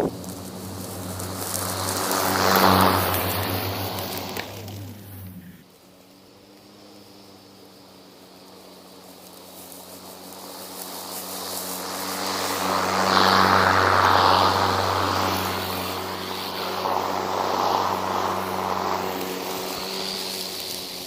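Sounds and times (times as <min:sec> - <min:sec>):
lawn mower running: 0:00.0 - 0:21.0.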